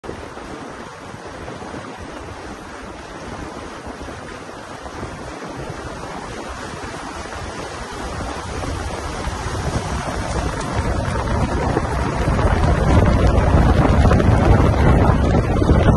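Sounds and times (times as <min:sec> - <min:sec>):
water rushing along boat hull: 0:00.0 - 0:15.9
wind on microphone: 0:00.0 - 0:15.9.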